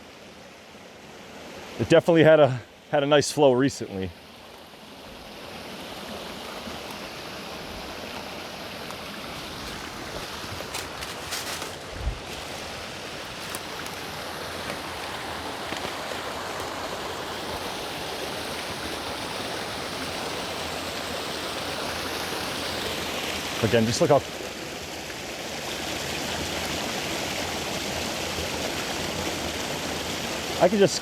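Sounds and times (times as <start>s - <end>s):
creek water rushing over rocks: 0.0s - 31.0s.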